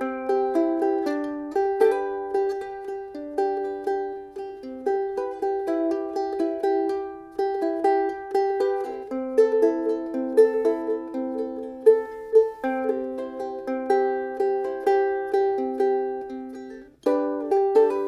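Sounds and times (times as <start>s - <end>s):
ukulele finger-picking: 0.0s - 18.0s.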